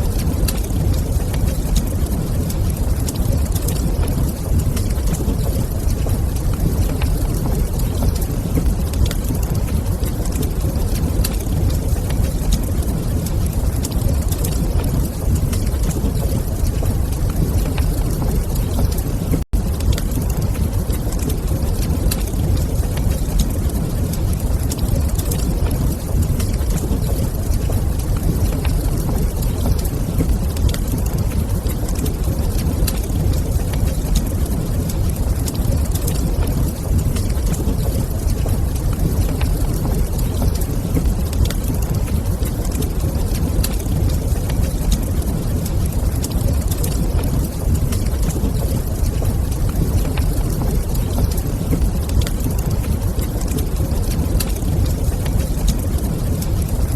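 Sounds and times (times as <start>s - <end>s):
fireplace fire crackling: 0.0s - 56.9s.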